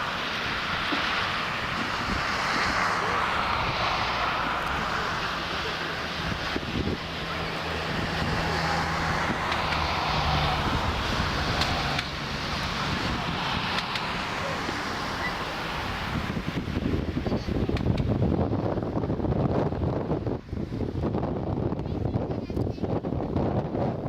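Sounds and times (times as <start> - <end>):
jet engines roaring: 0.0 - 21.1.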